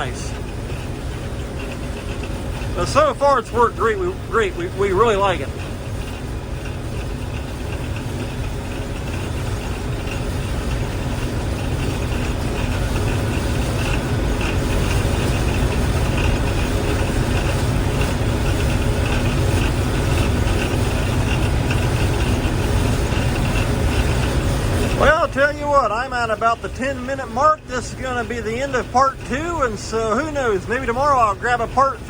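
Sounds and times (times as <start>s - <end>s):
heavy engine rumbling: 0.0s - 32.0s.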